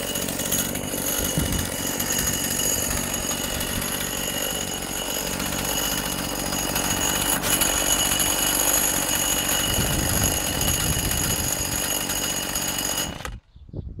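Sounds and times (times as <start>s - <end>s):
hedge trimmer engine whining: 0.0s - 13.5s.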